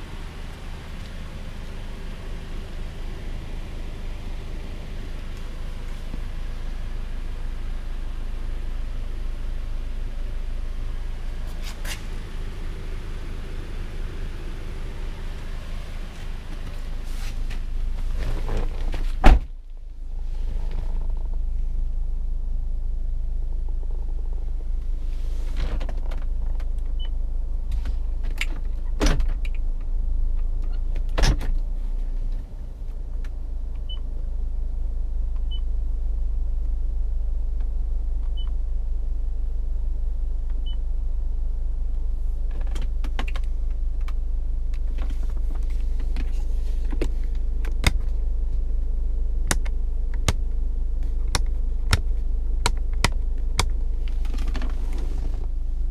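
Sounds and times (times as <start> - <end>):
vehicle low rumble: 0.0 - 55.9.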